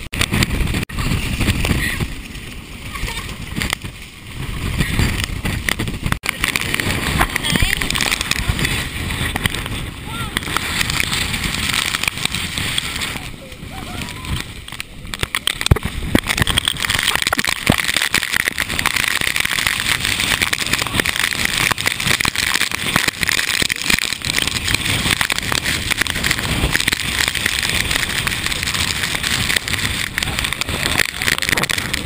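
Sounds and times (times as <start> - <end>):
raindrops striking camera: 0.0 - 32.0
storm wind buffeting microphone: 0.0 - 32.0.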